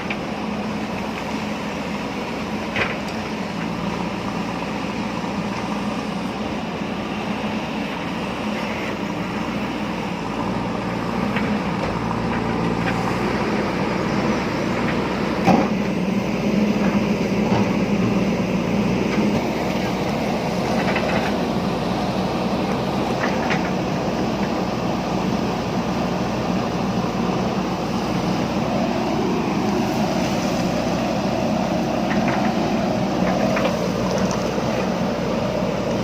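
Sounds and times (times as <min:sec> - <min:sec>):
diesel engine under load: 0:00.0 - 0:36.0.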